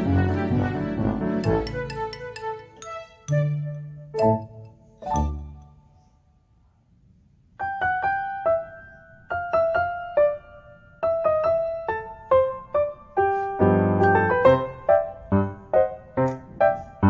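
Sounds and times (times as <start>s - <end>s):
gentle piano melody: 0.0s - 6.0s, 7.6s - 17.0s.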